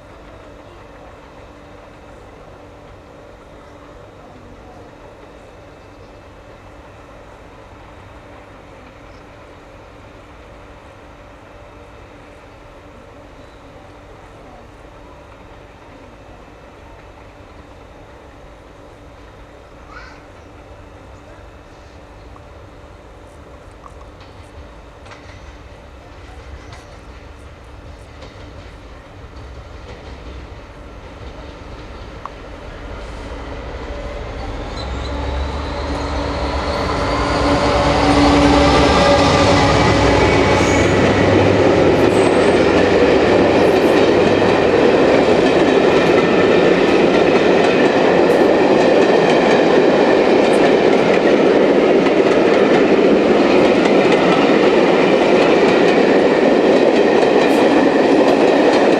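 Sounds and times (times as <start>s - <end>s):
clickety-clack of train wheels: 0.0s - 58.9s
train wheels rumbling on rail: 0.0s - 58.9s.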